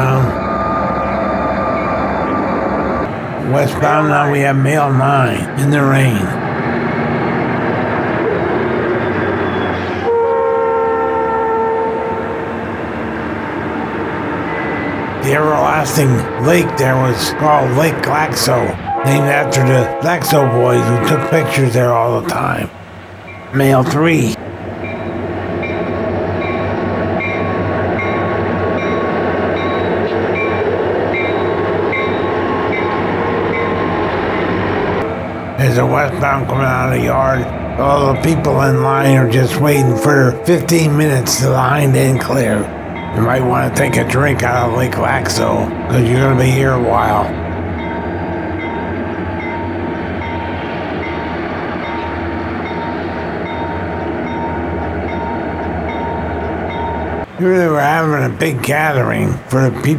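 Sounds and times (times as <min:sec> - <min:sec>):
diesel locomotives rumbling past: 0:00.0 - 0:59.9
freight train passing: 0:00.0 - 0:59.9.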